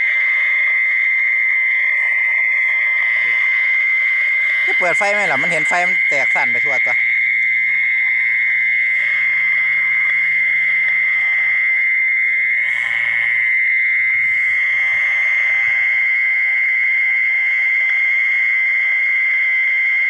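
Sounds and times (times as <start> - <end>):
frogs trilling in chorus: 0.0 - 20.0.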